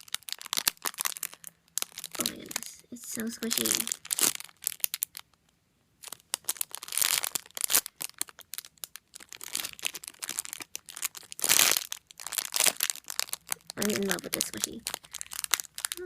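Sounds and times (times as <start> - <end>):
plastic packaging crinkling: 0.0 - 5.4, 6.0 - 16.0.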